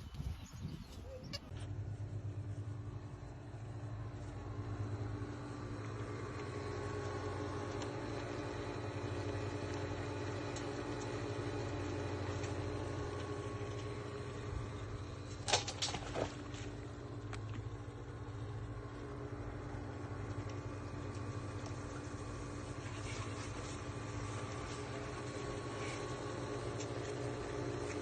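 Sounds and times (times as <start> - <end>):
engine idling hum: 0.0 - 28.0.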